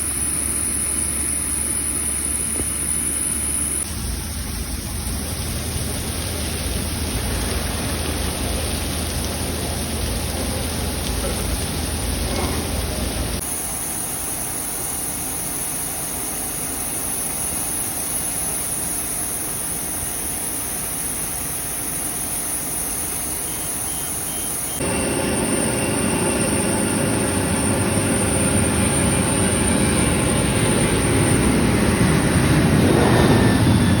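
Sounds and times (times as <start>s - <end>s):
faint jet engine whine: 0.0s - 34.0s
jet engines rushing: 0.0s - 34.0s.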